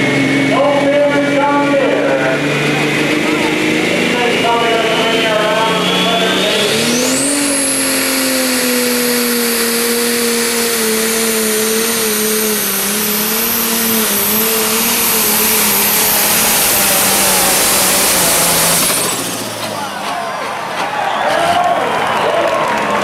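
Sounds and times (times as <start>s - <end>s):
turbocharger whine: 0.0s - 22.5s
diesel engine drone: 0.0s - 23.0s.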